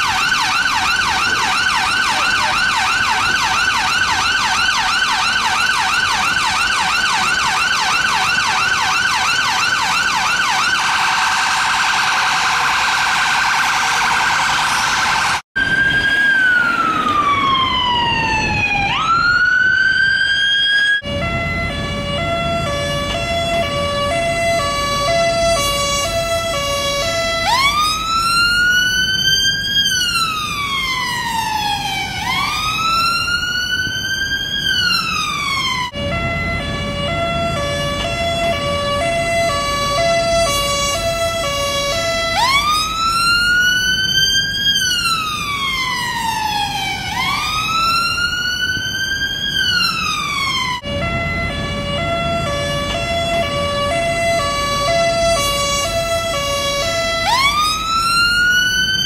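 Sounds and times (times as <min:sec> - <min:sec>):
ambulance siren slow wail: 0:00.0 - 0:59.0
ambulance siren yelp: 0:00.0 - 0:59.0
two-tone siren: 0:00.0 - 0:59.0.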